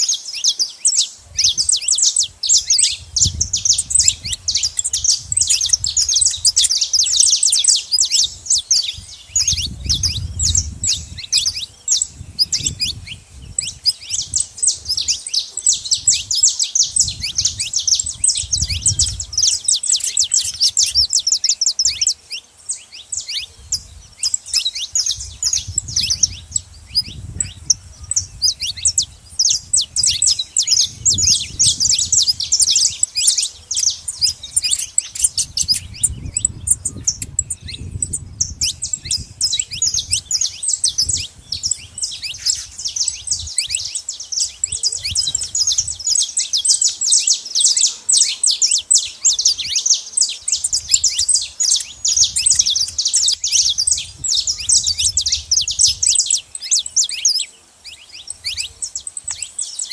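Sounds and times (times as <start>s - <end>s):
finches chirping: 0.0s - 59.9s.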